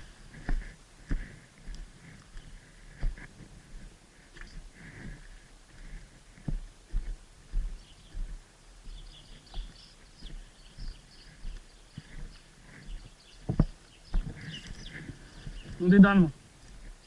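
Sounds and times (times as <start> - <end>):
birds chirping faintly: 0.0 - 17.0
footsteps on outdoor ground: 0.0 - 17.0.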